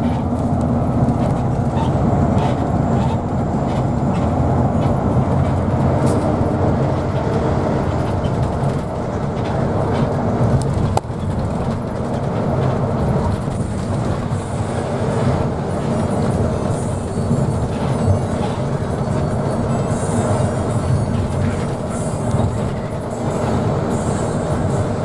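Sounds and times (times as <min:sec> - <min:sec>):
moving vehicle rumble: 0:00.0 - 0:25.0.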